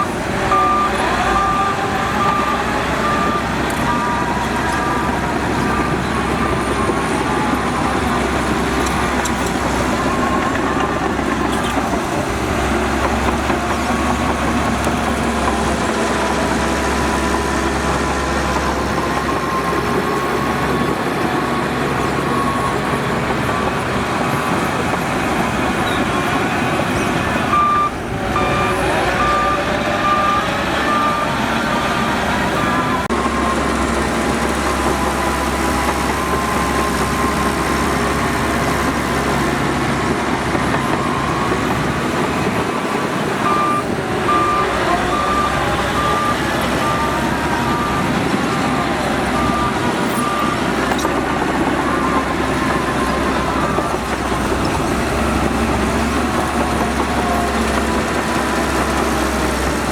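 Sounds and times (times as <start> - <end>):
reversing alarm beeping: 0.0 - 59.5.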